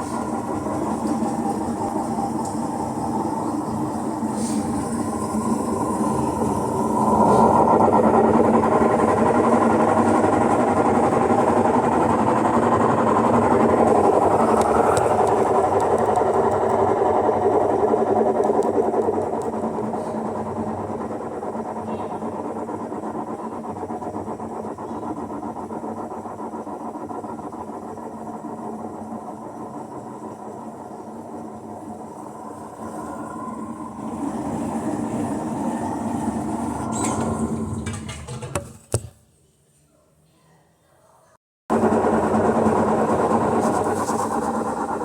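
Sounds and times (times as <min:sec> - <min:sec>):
washing machine spinning: 0:00.0 - 0:39.2, 0:41.7 - 0:45.0.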